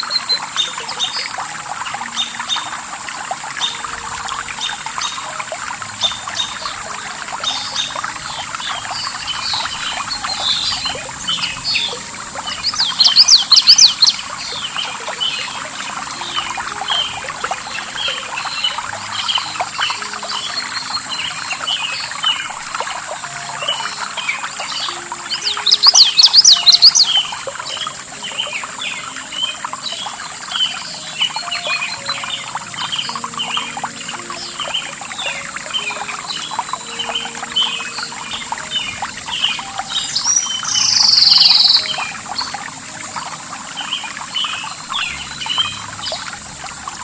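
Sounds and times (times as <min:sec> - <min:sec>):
small birds chirping: 0:00.0 - 0:46.3
thin high tone: 0:00.0 - 0:46.5
stream running water: 0:00.0 - 0:47.0.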